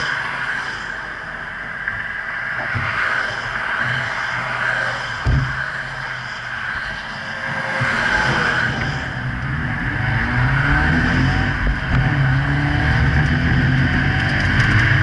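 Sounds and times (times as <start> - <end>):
car engines pulling: 0.0 - 15.0
wind and road noise: 0.0 - 15.0.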